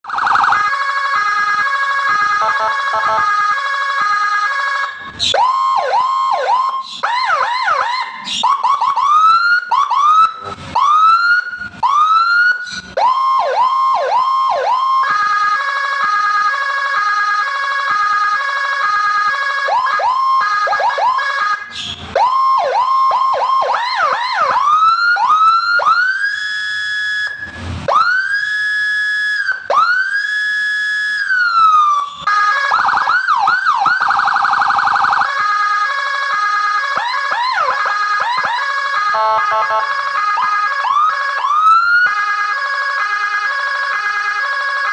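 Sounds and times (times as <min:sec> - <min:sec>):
electronic siren: 0:00.0 - 0:44.9.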